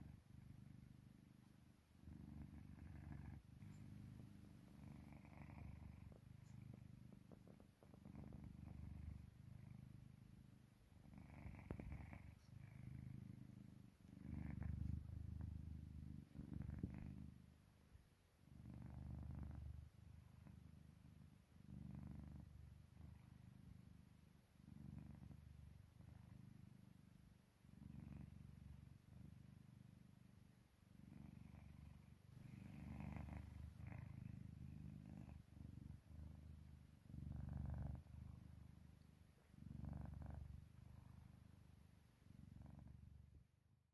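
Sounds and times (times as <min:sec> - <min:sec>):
cat purring: 0:00.0 - 0:43.9.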